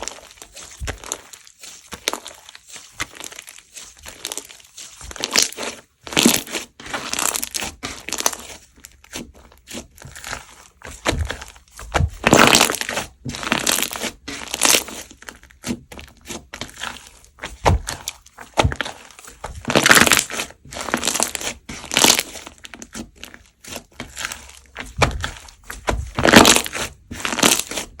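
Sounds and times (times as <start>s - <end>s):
foam beads crunching and crackling: 0.0s - 28.0s.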